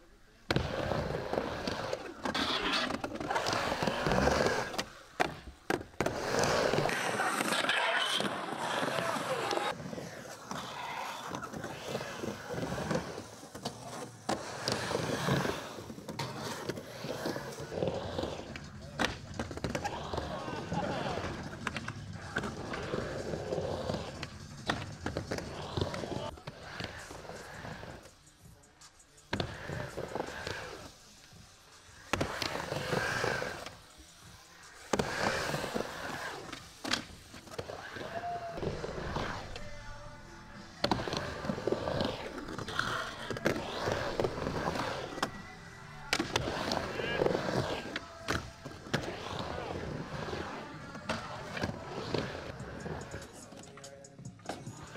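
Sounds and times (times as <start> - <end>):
skateboard wheels rolling on ramp: 0.2 - 54.9.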